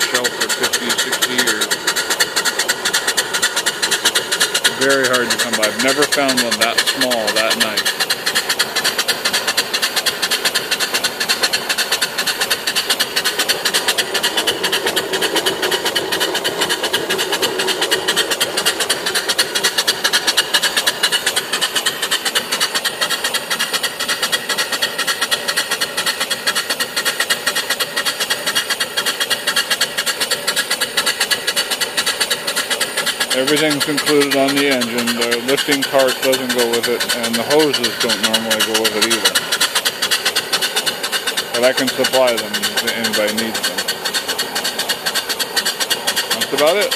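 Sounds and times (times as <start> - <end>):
steam engine exhaust beating: 0.0 - 46.9.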